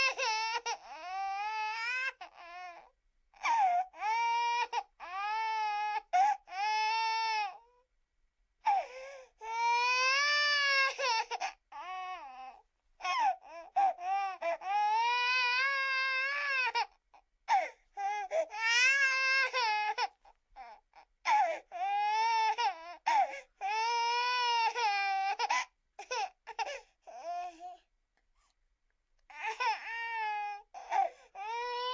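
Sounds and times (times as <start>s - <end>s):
baby crying: 0.0s - 7.7s, 8.7s - 27.8s, 29.3s - 31.9s.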